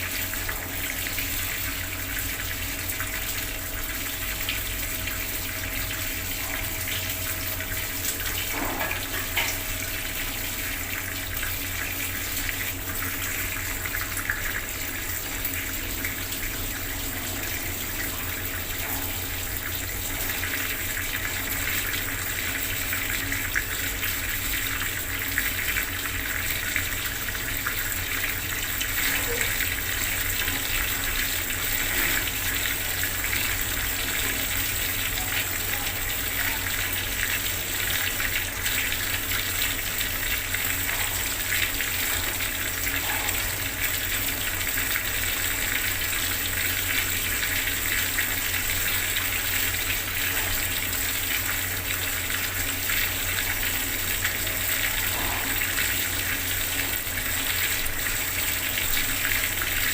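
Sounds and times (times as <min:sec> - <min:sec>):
water running from a tap: 0:00.0 - 0:59.9.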